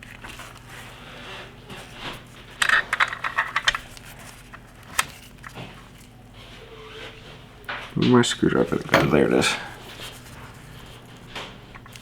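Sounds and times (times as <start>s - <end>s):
faint handling noise: 0.0s - 12.0s.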